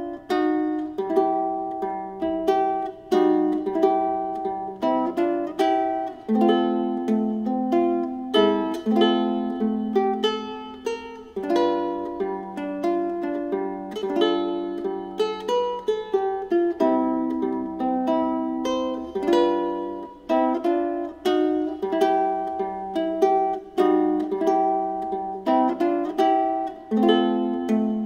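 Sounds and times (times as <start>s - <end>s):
ukulele plucked melody: 0.0s - 28.0s.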